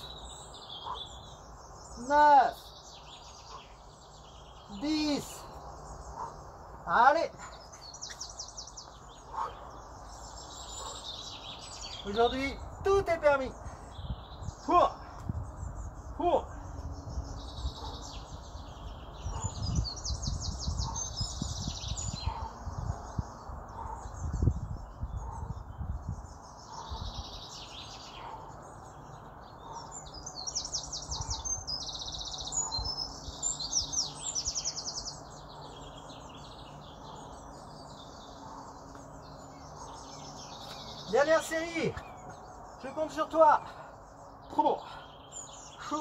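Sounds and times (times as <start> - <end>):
birds chirping and trilling: 0.0 - 46.0.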